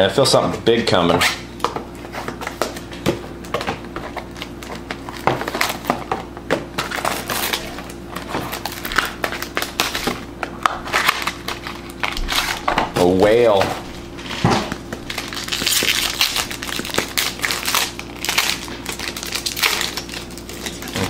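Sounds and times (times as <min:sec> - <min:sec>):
plastic wrap crinkling: 0:02.6 - 0:21.0.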